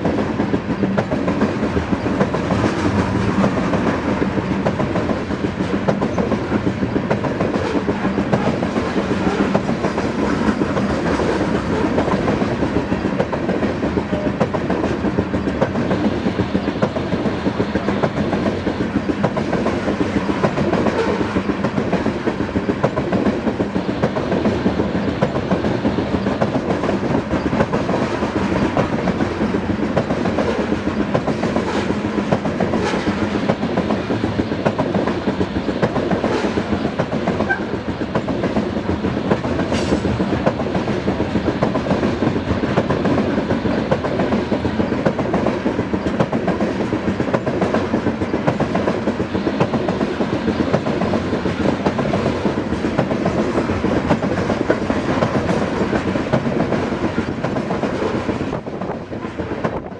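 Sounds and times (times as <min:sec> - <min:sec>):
freight train wheels rumbling: 0:00.0 - 0:59.9
wheels clickety-clack on rail joints: 0:00.0 - 0:59.9.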